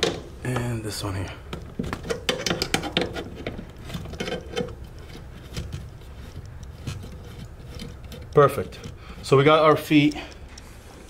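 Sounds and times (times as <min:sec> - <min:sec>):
metal leg turning clicks: 0:01.5 - 0:10.7.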